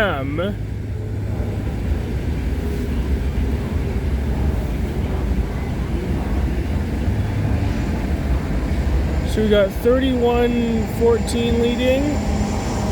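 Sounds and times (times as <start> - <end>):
freight train rumbling past: 0.0 - 12.9.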